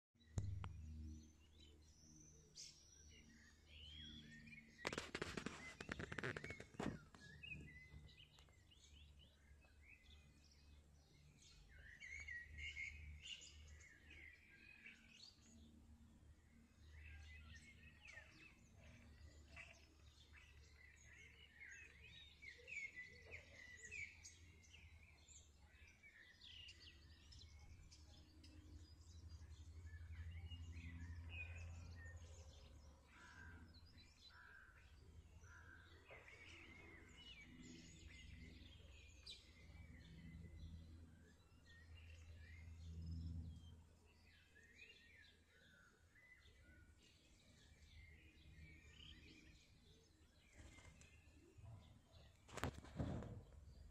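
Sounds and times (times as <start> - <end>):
small birds chirping: 0.2 - 53.9.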